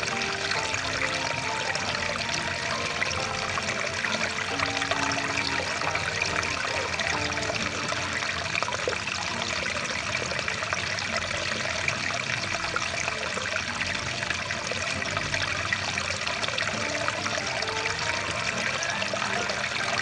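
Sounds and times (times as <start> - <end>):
stream of rushing water: 0.0 - 20.0.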